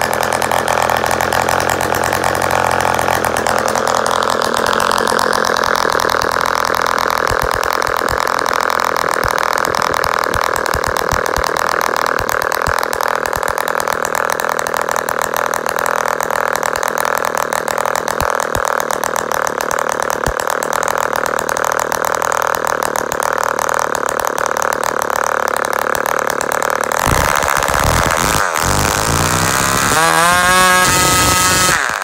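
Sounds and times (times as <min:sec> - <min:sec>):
model engine buzzing: 0:00.0 - 0:32.0.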